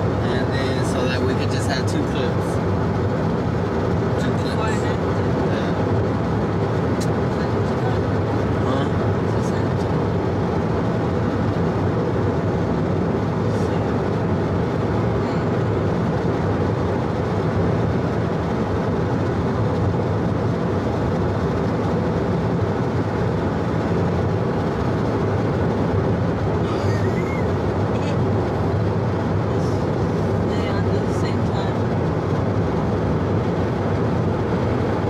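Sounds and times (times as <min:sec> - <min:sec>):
car engine hum: 0:00.0 - 0:35.0
car road noise: 0:00.0 - 0:35.0.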